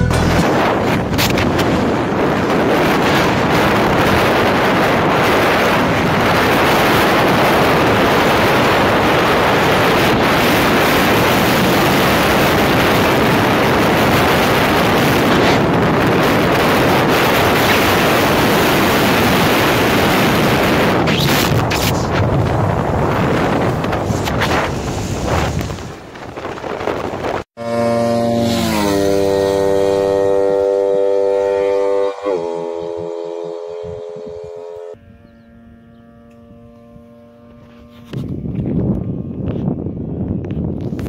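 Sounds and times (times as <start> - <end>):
motorcycle engine: 0.0 - 40.8
wind buffeting microphone: 0.0 - 41.0.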